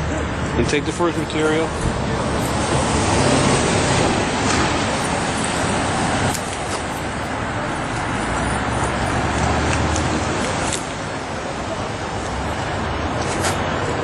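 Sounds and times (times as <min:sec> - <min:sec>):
vehicle rumble and hiss: 0:00.0 - 0:14.0.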